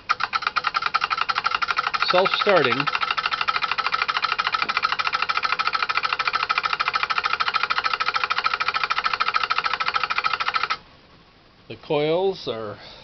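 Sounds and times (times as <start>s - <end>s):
electric motor running: 0.0s - 10.8s
relays chattering: 0.1s - 10.8s.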